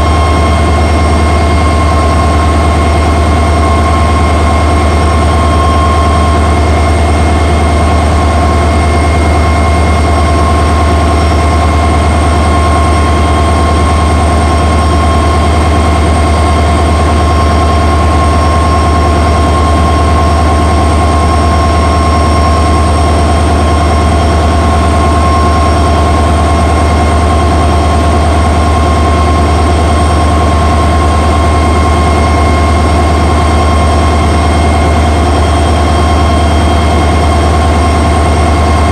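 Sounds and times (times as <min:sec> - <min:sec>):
diesel locomotive engine droning: 0:00.0 - 0:38.9.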